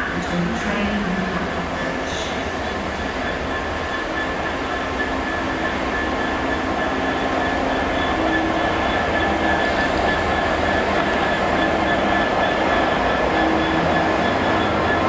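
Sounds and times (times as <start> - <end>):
diesel locomotive engine running: 0.0 - 15.0
high whine: 0.0 - 15.0
train wheel noise: 0.0 - 15.0.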